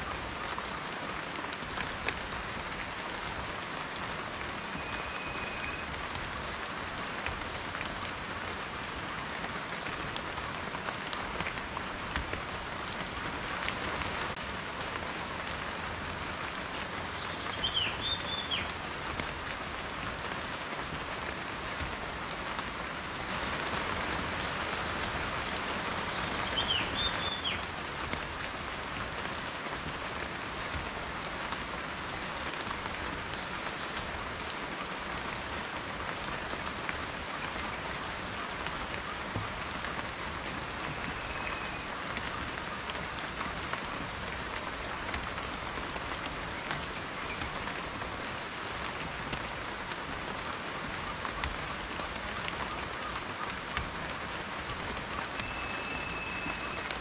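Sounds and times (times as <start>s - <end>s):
steady rain falling: 0.0s - 57.0s
raindrops tapping on a surface: 0.1s - 5.0s, 5.8s - 57.0s.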